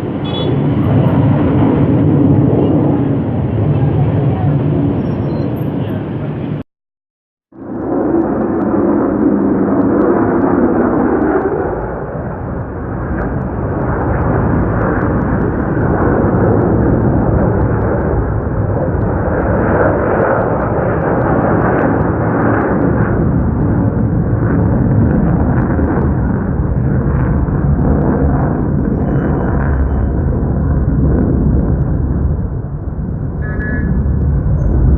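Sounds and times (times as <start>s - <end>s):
fighter jet roaring overhead: 0.0s - 6.6s, 7.5s - 34.9s.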